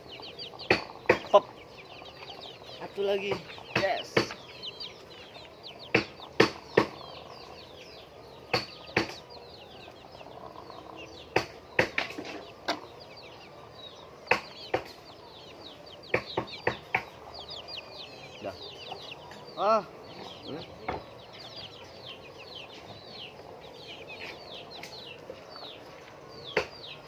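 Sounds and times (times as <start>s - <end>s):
hens chirping: 0.0s - 27.0s.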